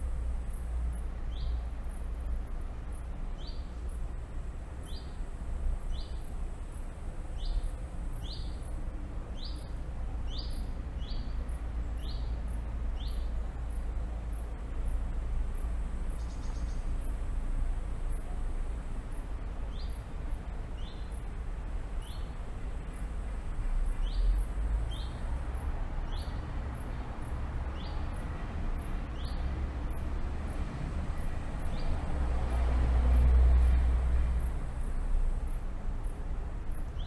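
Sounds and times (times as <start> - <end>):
traffic rumble: 0.0 - 37.0
wind: 0.0 - 37.0.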